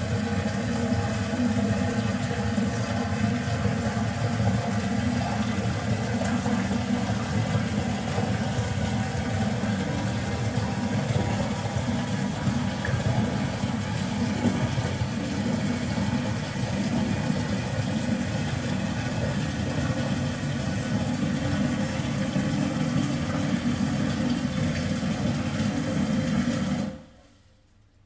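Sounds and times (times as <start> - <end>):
toilet water rushing: 0.0 - 27.2.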